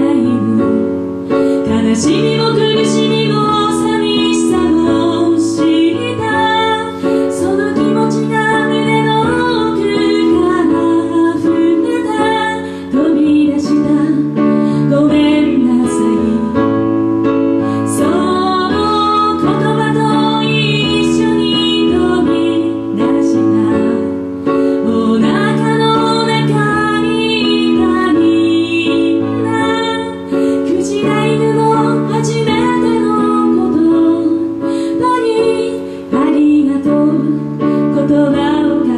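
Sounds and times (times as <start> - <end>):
keyboard piano chords: 0.0 - 38.9
woman singing a slow song: 0.0 - 38.9.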